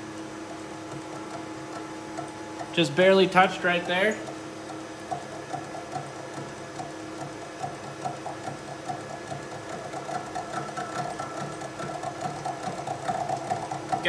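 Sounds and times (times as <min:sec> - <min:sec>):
milling machine running: 0:00.0 - 0:14.0.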